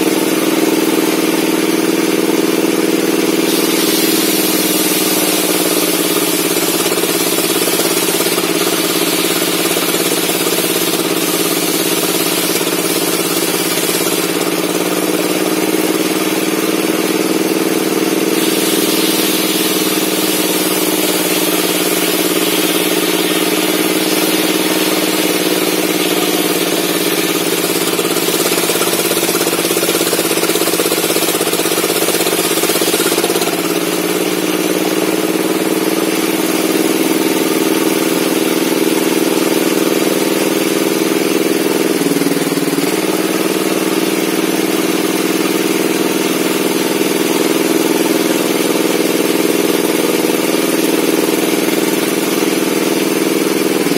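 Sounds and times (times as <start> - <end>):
table saw running: 0.0 - 53.9.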